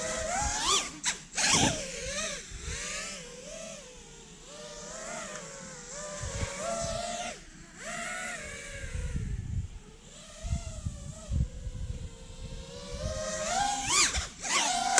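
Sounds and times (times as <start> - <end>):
quadcopter motors whining: 0.0 - 14.9.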